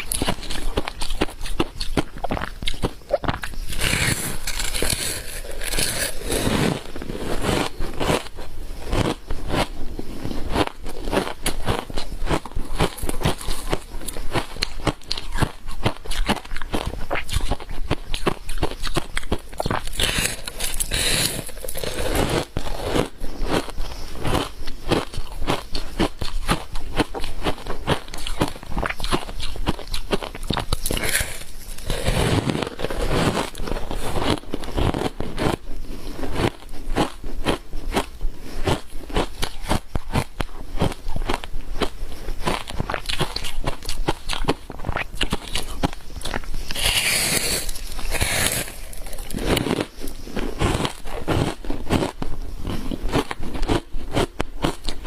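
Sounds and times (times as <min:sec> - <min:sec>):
ice being crunched and chewed: 0:00.0 - 0:55.0.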